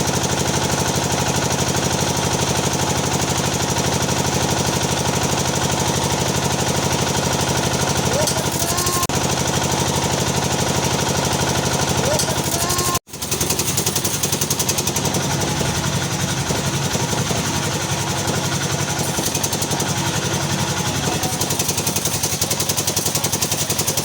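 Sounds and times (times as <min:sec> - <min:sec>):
welding machine hum: 0:00.0 - 0:24.0.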